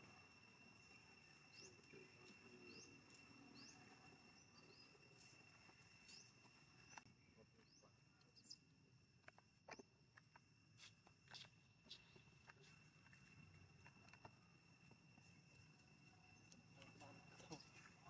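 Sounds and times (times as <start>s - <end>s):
steady high-pitched whine: 0.0s - 18.0s.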